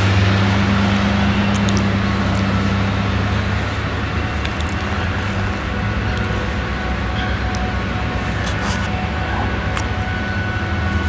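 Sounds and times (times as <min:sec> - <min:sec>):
forage harvester engine drone: 0:00.0 - 0:11.0.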